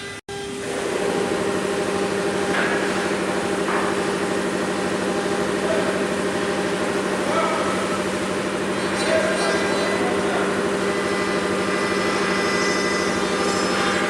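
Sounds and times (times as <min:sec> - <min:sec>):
router spindle humming: 0:00.3 - 0:14.0.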